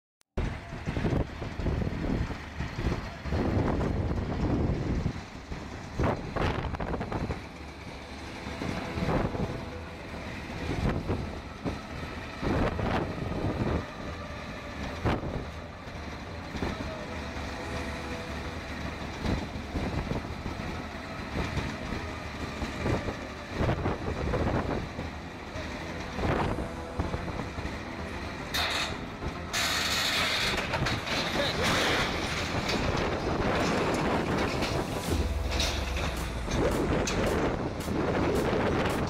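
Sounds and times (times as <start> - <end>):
wind buffeting microphone: 0.4 - 17.1, 18.4 - 28.2, 31.8 - 39.0
construction machine engine running: 0.4 - 39.0.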